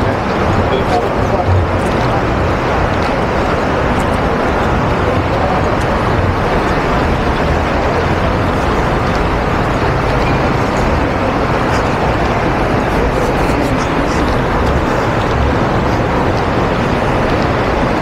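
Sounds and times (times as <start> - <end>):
busy road traffic: 0.0 - 18.0.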